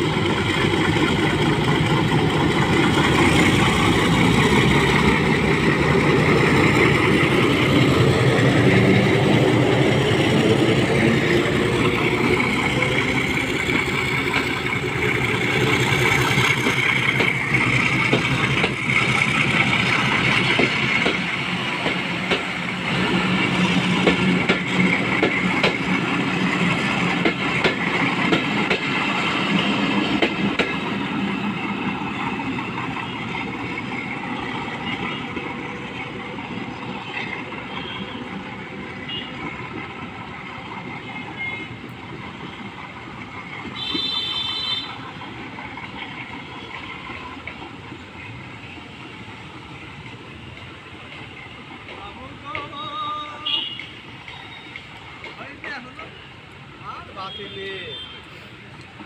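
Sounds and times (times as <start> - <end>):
train wheels clicking over rail joints: 0.0 - 56.8.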